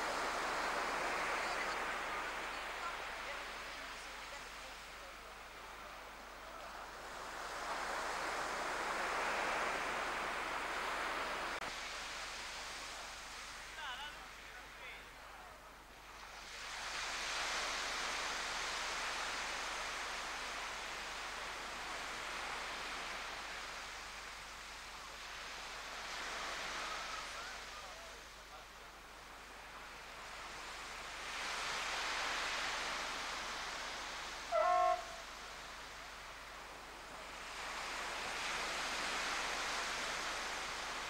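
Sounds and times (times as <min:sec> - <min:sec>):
small waves washing on shore: 0:00.0 - 0:41.0.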